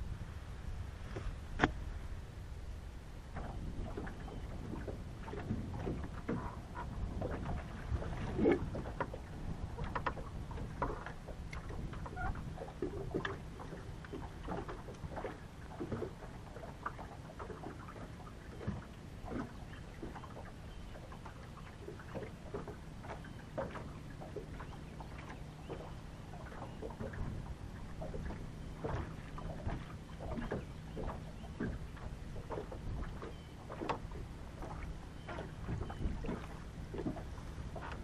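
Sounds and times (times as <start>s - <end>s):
waves lapping against boat hull: 0.0s - 38.0s.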